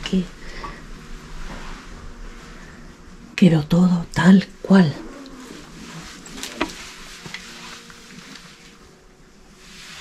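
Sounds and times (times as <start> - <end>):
room hiss: 0.0 - 10.0.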